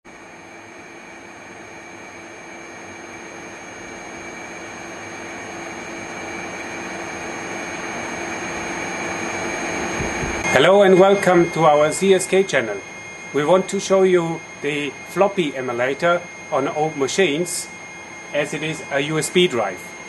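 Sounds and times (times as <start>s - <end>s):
machine hum with whining tones: 0.1s - 20.0s.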